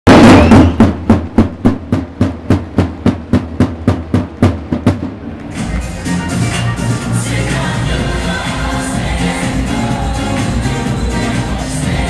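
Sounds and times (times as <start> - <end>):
evenly spaced drum hits: 0.1 - 12.0
music: 2.0 - 12.0.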